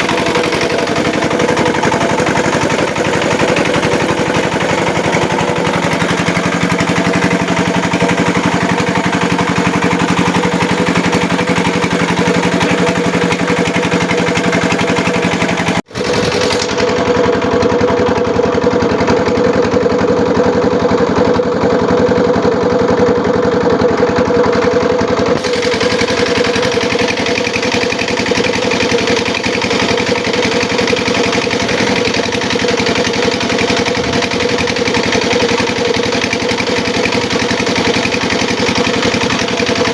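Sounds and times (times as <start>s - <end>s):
grinding machine engine running: 0.0s - 39.9s.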